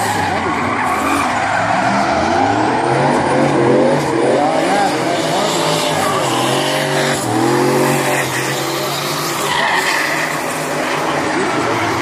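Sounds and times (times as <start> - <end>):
car engine revving: 0.0 - 12.0
tyres squealing: 0.0 - 12.0.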